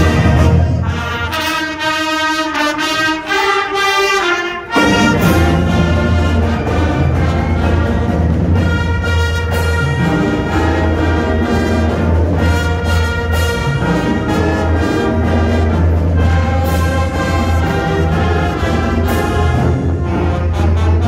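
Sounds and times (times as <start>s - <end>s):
brass marching band playing: 0.0s - 21.0s.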